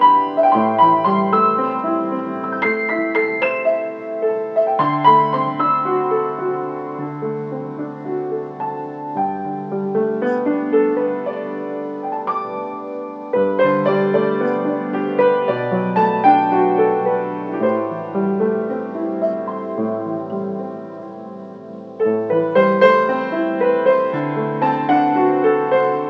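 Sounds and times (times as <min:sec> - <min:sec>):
slow piano chords: 0:00.0 - 0:26.0.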